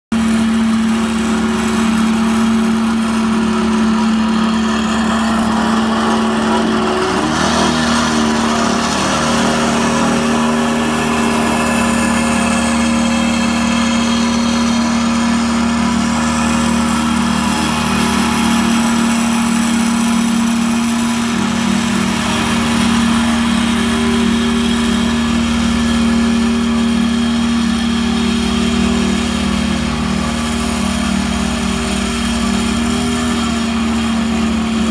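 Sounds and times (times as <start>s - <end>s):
roller engine running: 0.1s - 34.9s.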